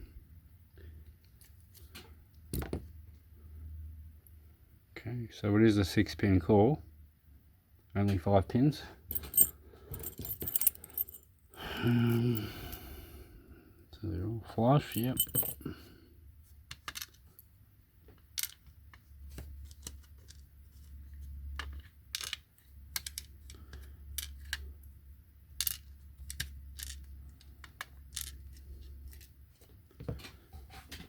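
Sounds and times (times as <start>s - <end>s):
low steady hum: 0.0s - 30.6s.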